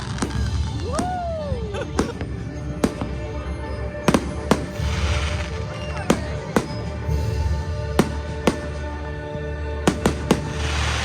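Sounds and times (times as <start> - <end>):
firework bangs: 0.0 - 11.0
firework crackling: 0.0 - 11.0
music: 0.0 - 11.0.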